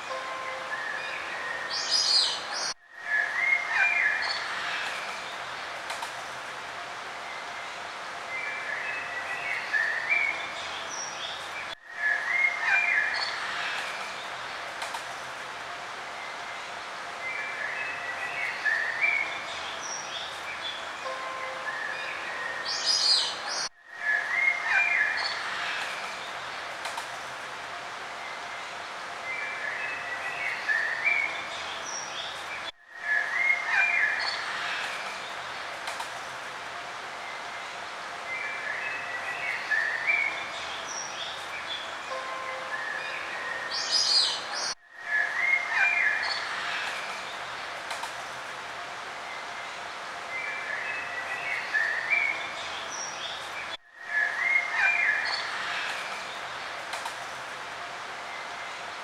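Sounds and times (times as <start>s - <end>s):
outdoor background hiss: 0.0s - 59.0s
songbirds singing: 0.1s - 5.8s, 7.2s - 14.8s, 16.1s - 26.8s, 28.1s - 35.8s, 37.1s - 47.7s, 49.2s - 57.2s.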